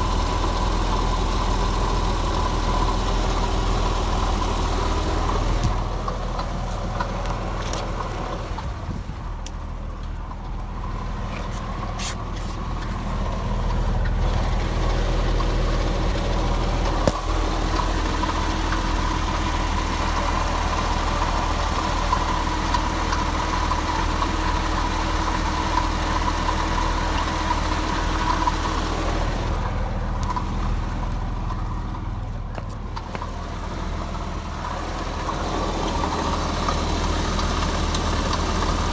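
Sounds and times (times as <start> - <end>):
car engine idling with rattle: 0.0 - 38.9.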